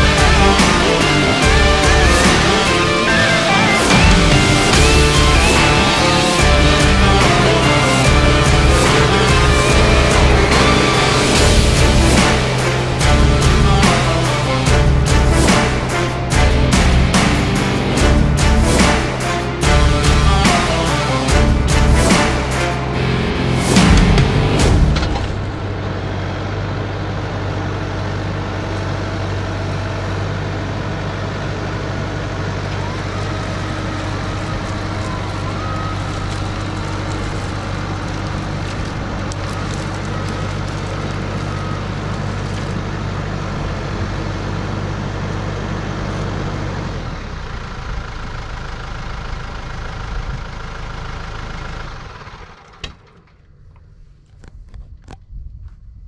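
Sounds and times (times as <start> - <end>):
tractor engine running: 0.0 - 55.2.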